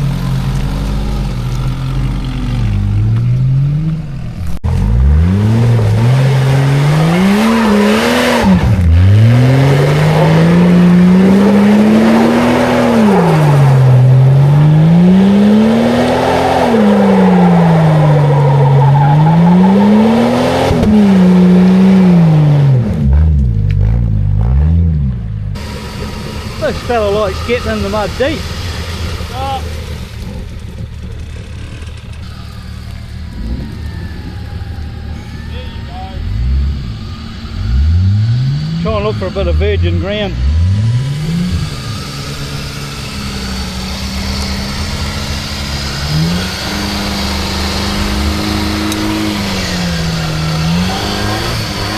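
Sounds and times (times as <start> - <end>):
car engine revving hard: 0.0 - 34.4, 36.1 - 51.9.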